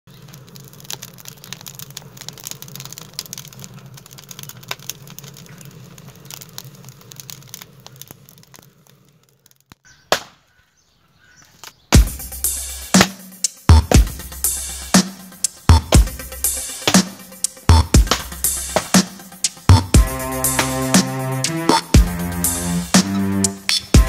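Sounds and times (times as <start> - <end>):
wood fire crackling: 0.0 - 10.3, 11.4 - 24.0.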